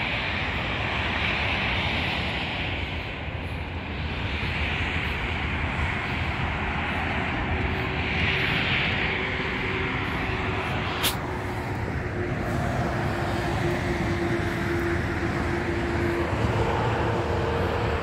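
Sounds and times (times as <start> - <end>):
faint engine drone: 0.0 - 18.0
outdoor rushing noise: 0.0 - 18.0.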